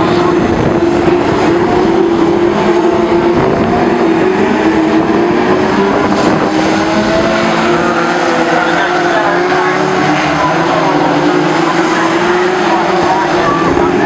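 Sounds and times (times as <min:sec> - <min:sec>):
racing car engines at full throttle: 0:00.0 - 0:14.0.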